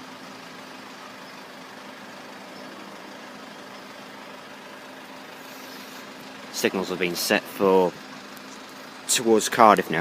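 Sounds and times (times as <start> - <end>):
outdoor background noise: 0.0 - 10.0
vehicle engine idling: 0.0 - 10.0.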